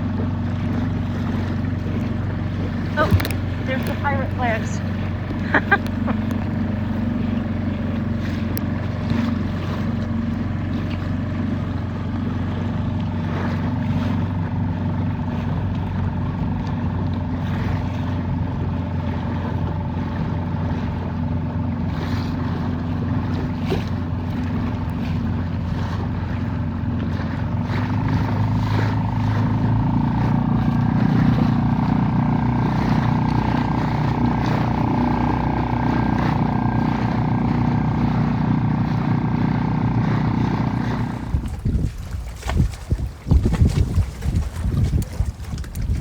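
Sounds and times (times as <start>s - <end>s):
outboard motor running: 0.0s - 46.0s.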